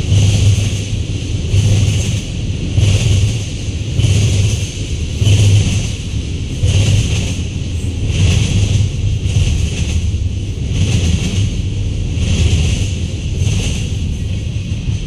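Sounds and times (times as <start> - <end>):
freight train wheels clattering past: 0.0 - 15.0.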